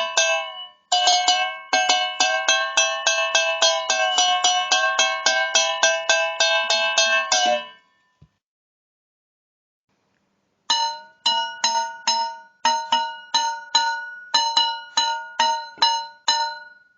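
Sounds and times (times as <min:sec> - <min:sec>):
metal cans struck ringing: 0:00.0 - 0:07.8, 0:10.7 - 0:16.8.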